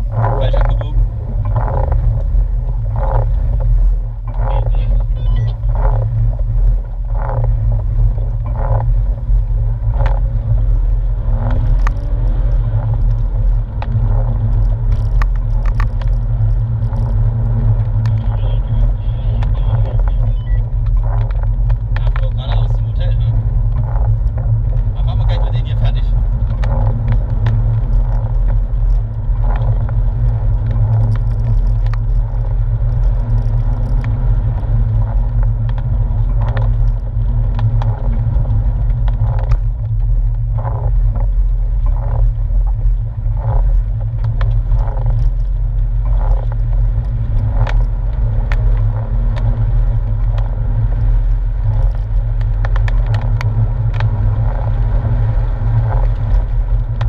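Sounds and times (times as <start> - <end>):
car engine rumble from cabin: 0.0 - 57.0.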